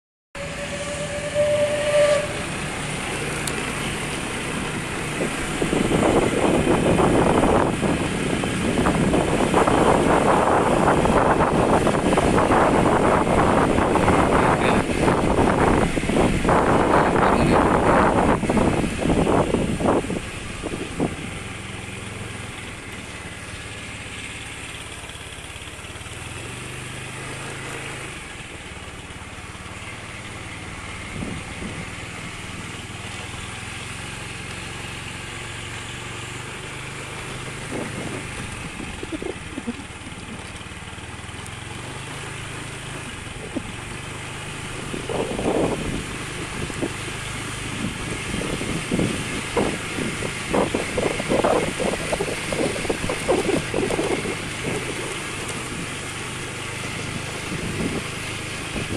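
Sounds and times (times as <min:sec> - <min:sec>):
small motorcycle engine running: 0:00.4 - 0:58.9.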